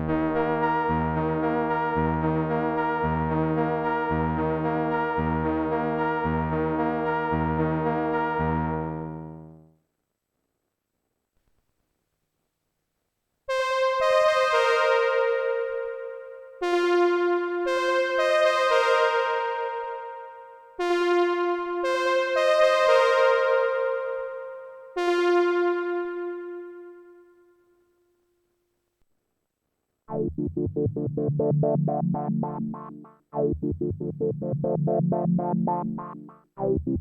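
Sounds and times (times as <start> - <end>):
synthesizer notes and chords: 0.0 - 9.6, 13.5 - 27.2, 30.1 - 37.0.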